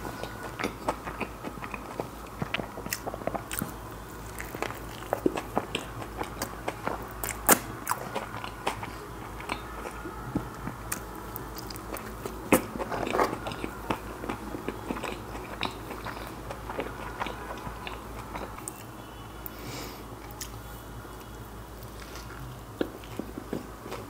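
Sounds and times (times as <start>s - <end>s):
person chewing with wet smacks: 0.0s - 19.6s, 20.2s - 20.6s, 21.2s - 24.0s.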